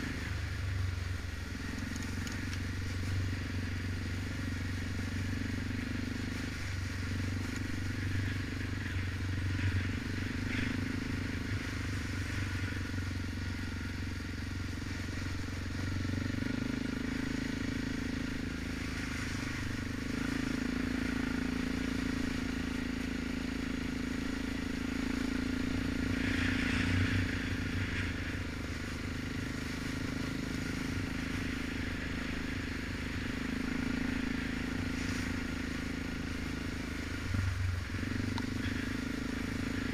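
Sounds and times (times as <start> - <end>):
atv engine running: 0.0 - 39.9
rattle of tyres and bodywork: 0.0 - 39.9.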